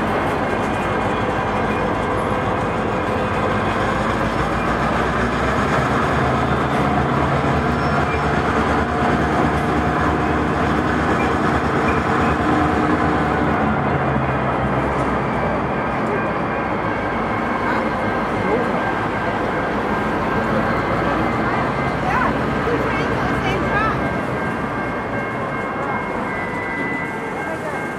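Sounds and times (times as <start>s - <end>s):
freight train rumbling: 0.0s - 27.9s.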